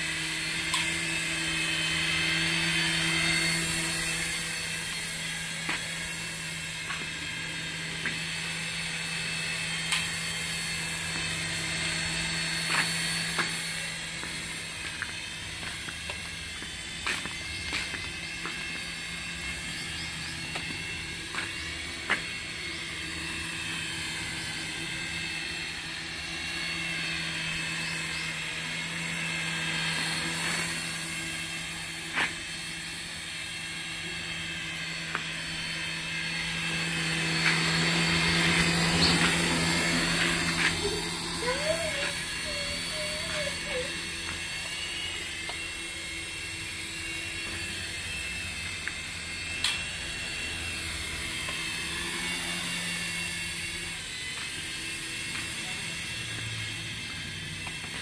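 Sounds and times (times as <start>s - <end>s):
toy helicopter rotor motors whining: 0.0s - 58.0s.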